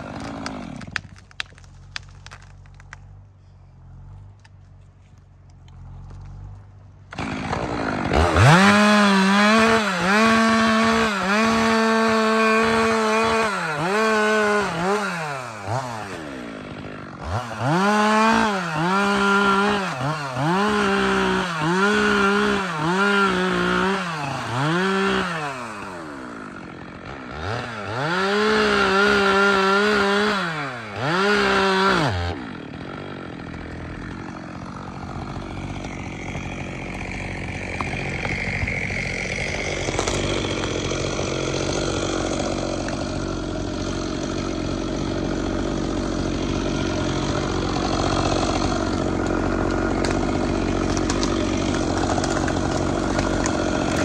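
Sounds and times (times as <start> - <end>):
chainsaw cutting wood: 0.0 - 3.2, 3.9 - 54.0.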